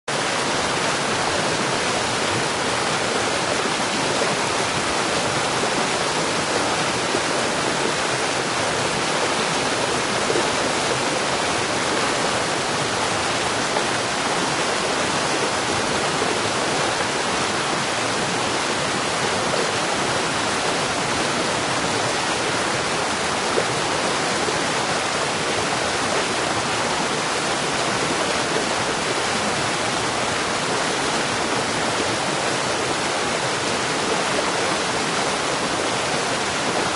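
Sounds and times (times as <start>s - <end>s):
water rushing over rocks: 0.1s - 36.9s.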